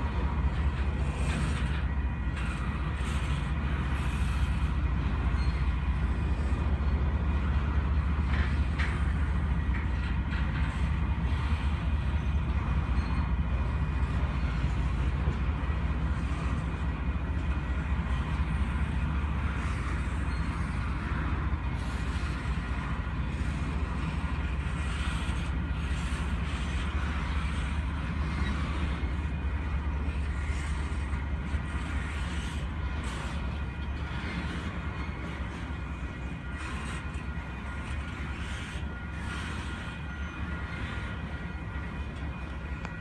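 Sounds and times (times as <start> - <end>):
freight train rumbling on rails: 0.0 - 43.0
train clanks: 0.0 - 43.0.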